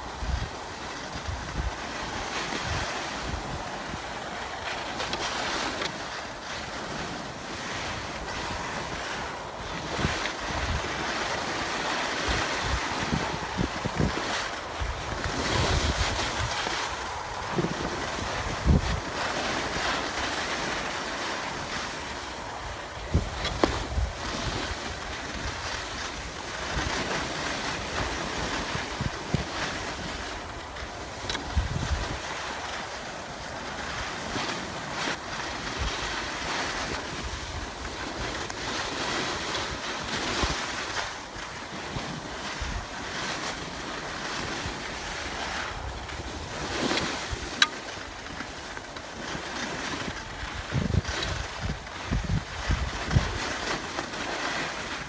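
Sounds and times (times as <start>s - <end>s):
skis sliding on wet snow: 0.0s - 55.0s
wind buffeting microphone: 0.0s - 55.0s.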